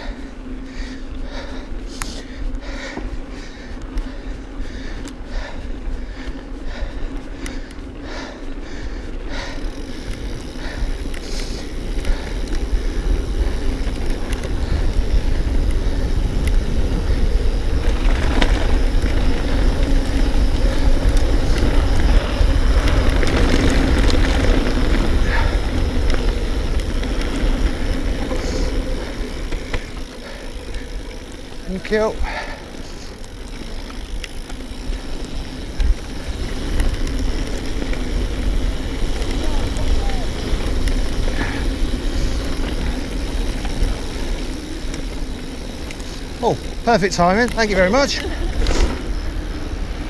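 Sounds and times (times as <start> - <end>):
bike tyre noise on dirt: 0.0 - 50.0
wind buffeting microphone: 8.0 - 50.0.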